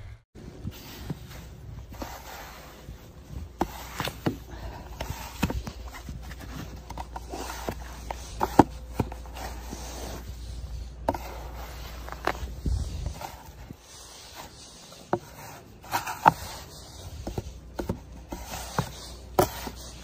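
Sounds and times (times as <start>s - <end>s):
gloved hand digging through snow: 0.5s - 20.0s.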